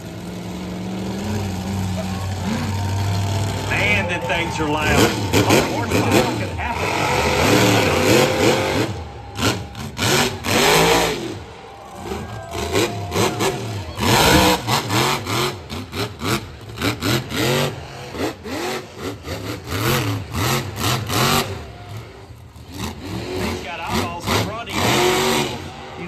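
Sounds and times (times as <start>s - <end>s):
monster truck engine revving: 0.0s - 26.0s.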